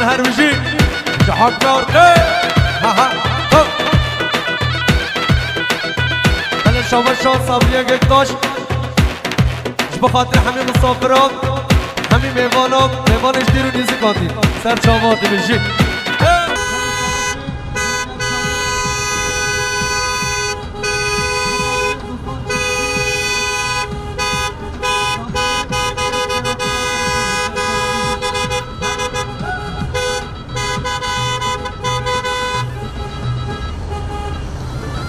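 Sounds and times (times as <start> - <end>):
car horns honking: 0.0 - 35.0
traffic noise: 0.0 - 35.0.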